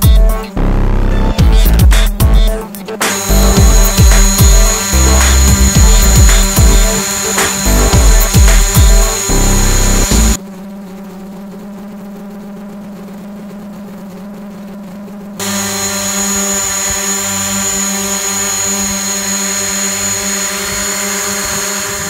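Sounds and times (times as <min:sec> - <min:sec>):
drone propellers humming: 0:00.0 - 0:22.0
high whine: 0:00.0 - 0:22.0.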